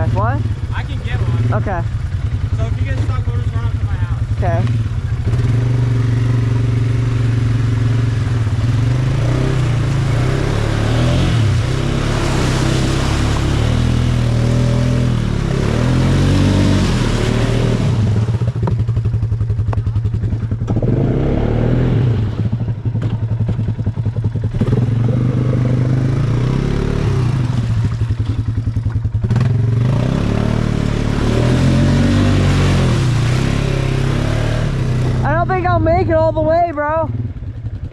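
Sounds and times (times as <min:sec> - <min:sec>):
atv engine revving: 0:00.0 - 0:37.9.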